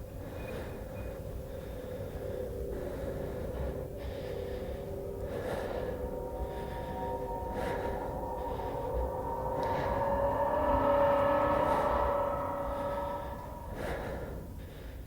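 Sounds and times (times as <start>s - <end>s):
steady low drone: 0.0s - 15.0s
person breathing heavily: 0.8s - 15.0s.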